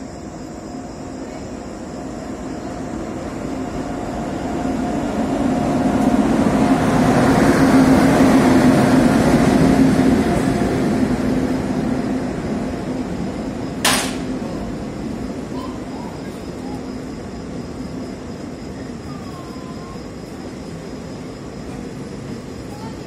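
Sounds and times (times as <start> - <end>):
train rumble and rail noise: 0.0 - 23.0.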